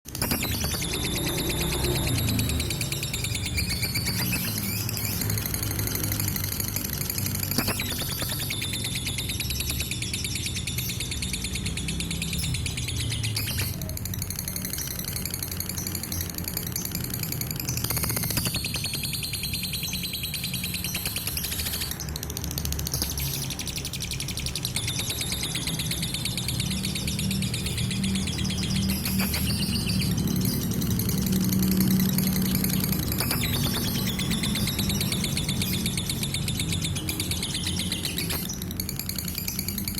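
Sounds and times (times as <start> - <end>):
lovebird chattering: 0.1 - 39.9.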